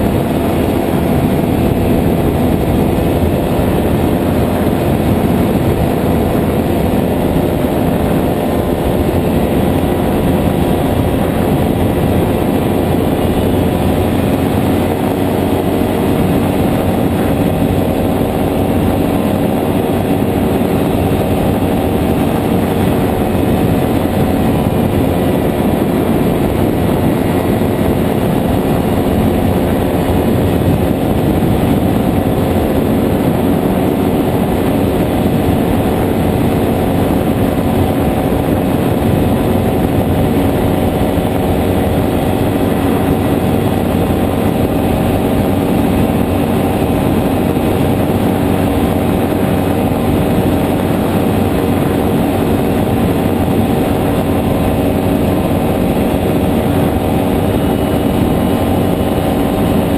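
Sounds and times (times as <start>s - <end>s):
aircraft engine and propeller: 0.0s - 59.9s
wind rushing over microphone: 0.0s - 59.9s.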